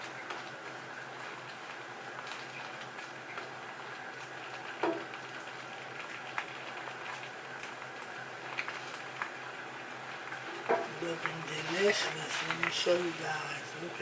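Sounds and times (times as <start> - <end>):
shrimp sizzling in a frying pan: 0.0 - 14.0.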